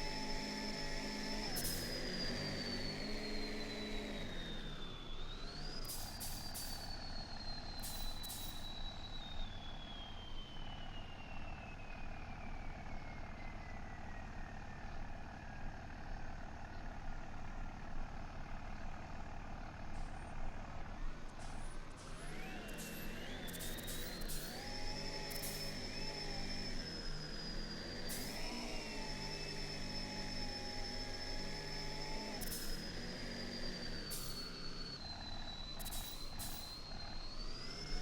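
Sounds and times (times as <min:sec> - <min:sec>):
truck engine whine: 0:00.0 - 0:38.0.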